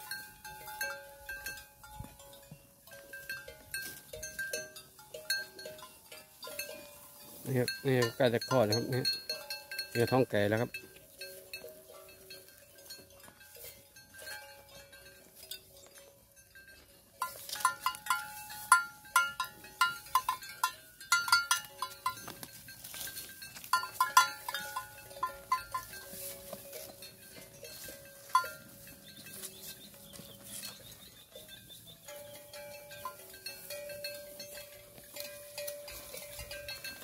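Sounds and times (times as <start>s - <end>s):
cattle bells clinking: 0.0s - 37.0s.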